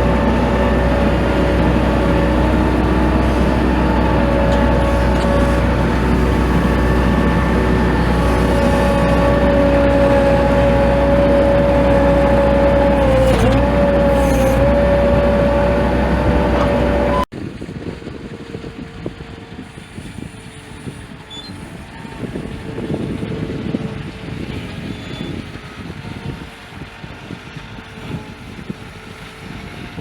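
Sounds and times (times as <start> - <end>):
engine whine: 0.0 - 30.0
tractor engine running: 0.0 - 30.0.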